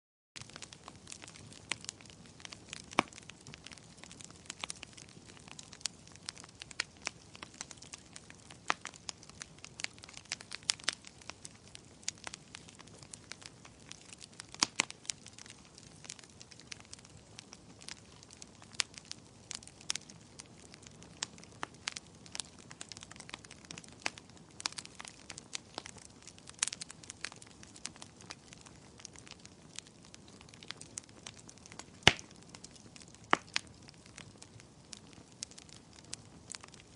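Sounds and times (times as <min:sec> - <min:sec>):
wood fire crackling: 0:00.4 - 0:36.9.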